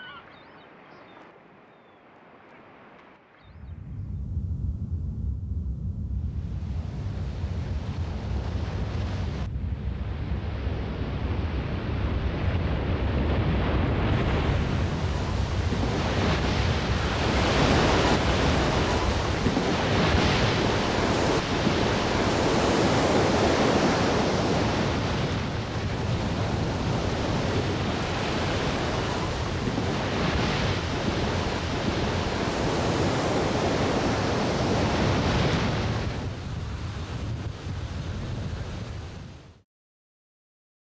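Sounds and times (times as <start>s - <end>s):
wind noise on microphone: 3.4s - 39.6s
seawater rushing and breaking: 6.4s - 39.4s.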